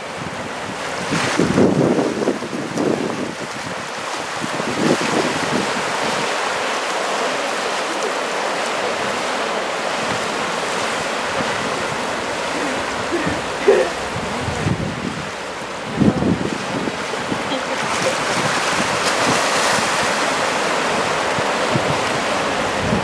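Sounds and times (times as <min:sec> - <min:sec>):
wind buffeting microphone: 0:00.0 - 0:06.8, 0:08.8 - 0:23.0
ocean surf breaking: 0:00.0 - 0:23.0.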